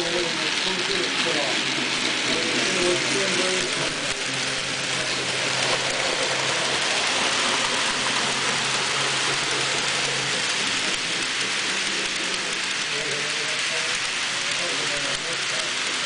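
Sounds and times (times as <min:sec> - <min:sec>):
model train wheels rattling on track: 0:00.0 - 0:16.0.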